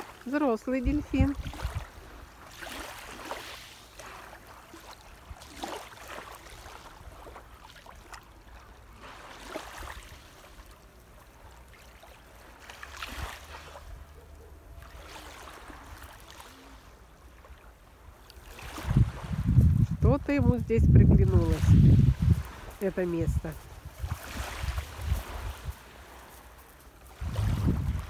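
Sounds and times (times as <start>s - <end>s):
small waves lapping at shore: 0.0s - 28.0s.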